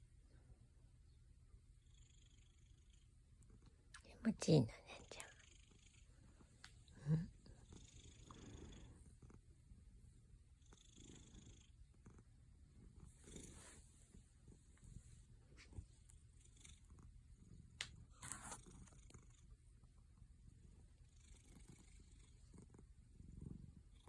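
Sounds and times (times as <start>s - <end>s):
cat purring: 1.7s - 24.0s.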